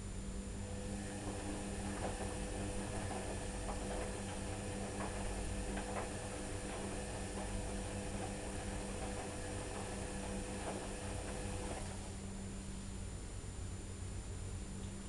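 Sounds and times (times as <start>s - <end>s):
washing machine motor humming: 0.0s - 12.6s.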